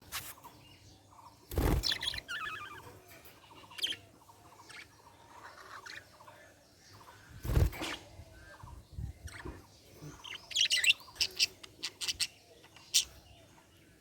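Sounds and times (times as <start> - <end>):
budgerigars chirping and warbling: 0.2 - 14.0.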